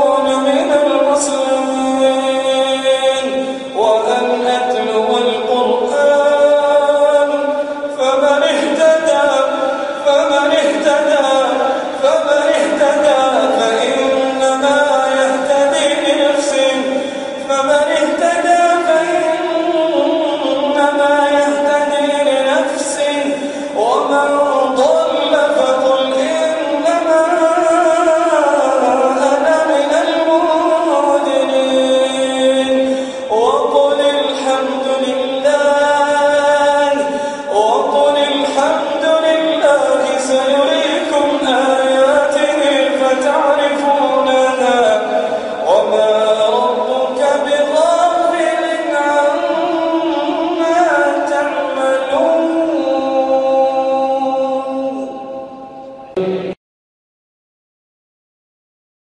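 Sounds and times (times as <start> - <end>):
man chanting recitation: 0.0 - 56.6.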